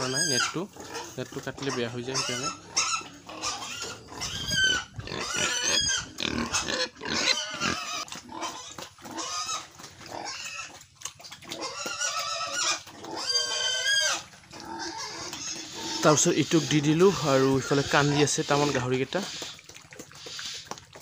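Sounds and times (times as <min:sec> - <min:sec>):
pigs squealing: 0:00.0 - 0:21.0.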